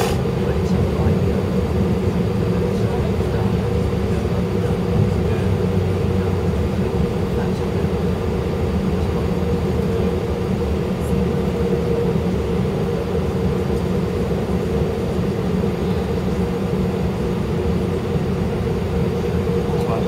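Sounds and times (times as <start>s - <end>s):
jet engines humming in cabin: 0.0s - 20.0s.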